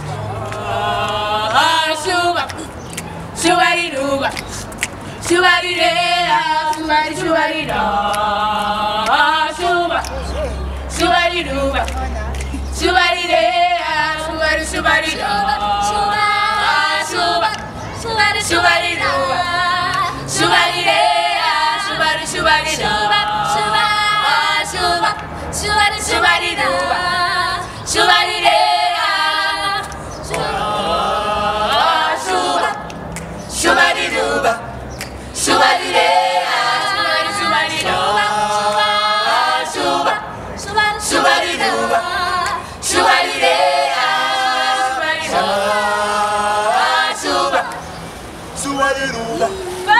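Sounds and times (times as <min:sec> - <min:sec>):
children's choir singing: 0:00.0 - 0:02.6, 0:03.4 - 0:04.4, 0:05.2 - 0:11.8, 0:12.7 - 0:48.0, 0:48.6 - 0:49.9.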